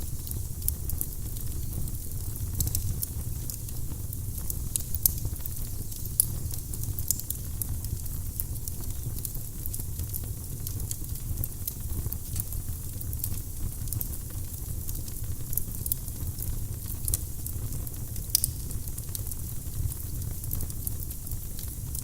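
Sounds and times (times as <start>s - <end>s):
firewood crackling and popping: 0.0s - 22.0s
low rumble of flames: 0.0s - 22.0s.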